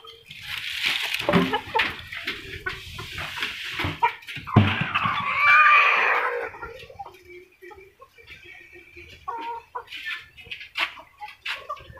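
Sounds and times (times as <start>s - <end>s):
hens rustling in wire cage: 0.0s - 7.4s, 8.1s - 11.9s
drawn-out hen call: 1.1s - 11.9s.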